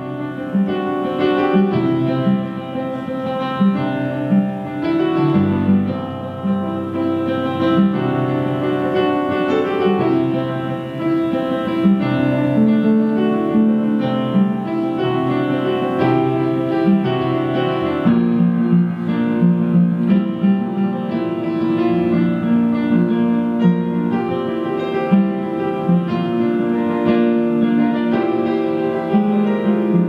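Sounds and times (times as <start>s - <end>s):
live keyboard music: 0.0s - 30.0s.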